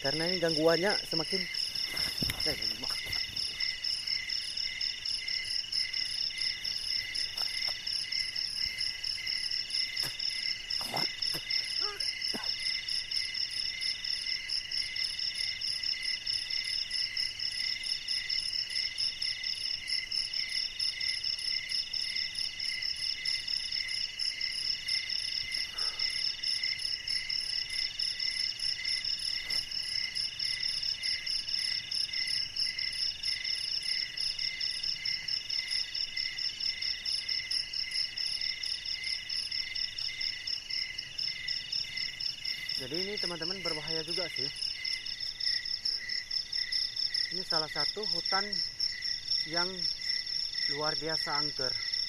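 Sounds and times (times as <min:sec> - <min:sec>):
insects trilling: 0:00.0 - 0:52.0.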